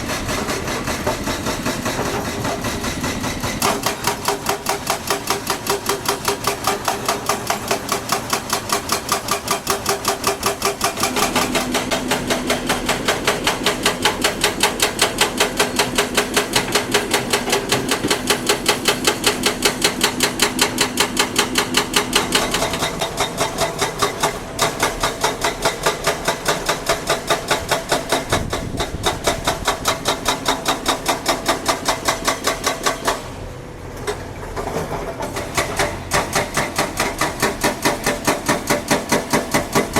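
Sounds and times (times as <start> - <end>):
construction machinery clatter: 0.0 - 39.9.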